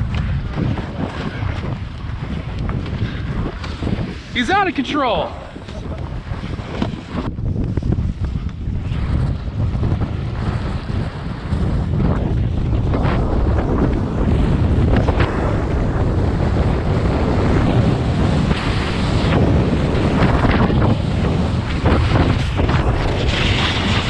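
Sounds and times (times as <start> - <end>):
skis carving on packed snow: 0.0 - 24.0
wind rushing over microphone: 0.0 - 24.0.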